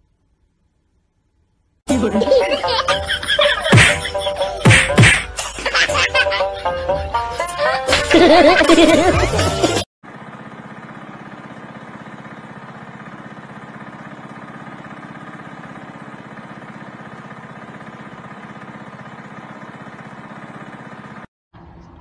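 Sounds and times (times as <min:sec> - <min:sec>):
small engine running steadily: 0:02.0 - 0:22.0.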